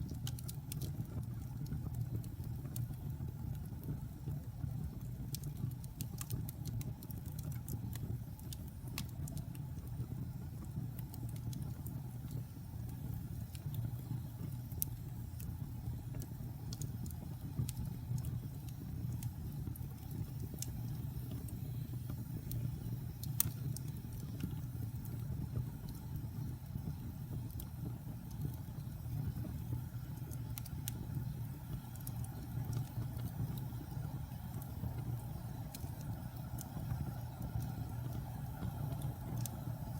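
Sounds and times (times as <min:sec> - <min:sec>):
fire crackling and popping: 0:00.0 - 0:39.9
fire low rumble: 0:00.0 - 0:39.9.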